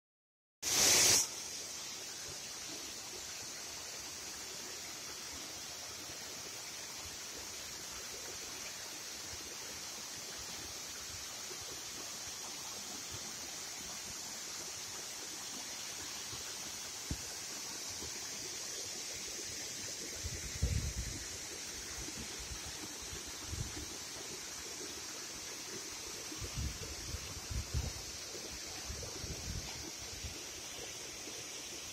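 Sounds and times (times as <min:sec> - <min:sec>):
waterfall rushing and splashing: 0:00.7 - 0:31.9.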